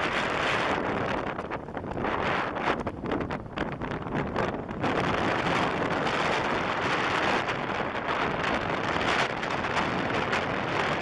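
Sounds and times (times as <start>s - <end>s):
storm wind gusting: 0.0s - 11.0s.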